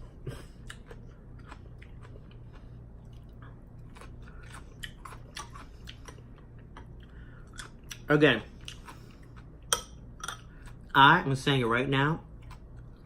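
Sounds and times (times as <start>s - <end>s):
close chewing of soup: 0.3s - 11.0s.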